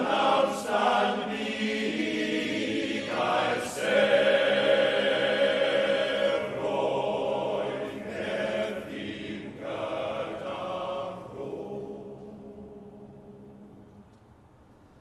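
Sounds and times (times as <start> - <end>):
male choir singing: 0.0 - 13.8.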